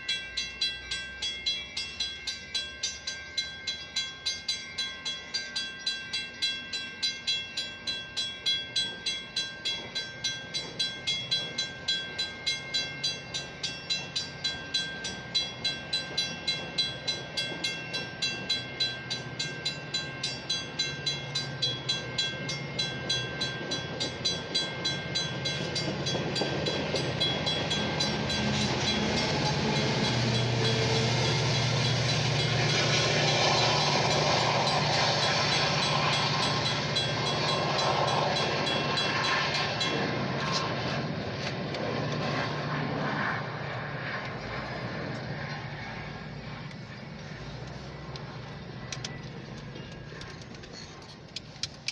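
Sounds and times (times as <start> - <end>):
railroad crossing bell ringing: 0.0 - 41.8, 45.5 - 51.9
train rumble: 0.0 - 51.9.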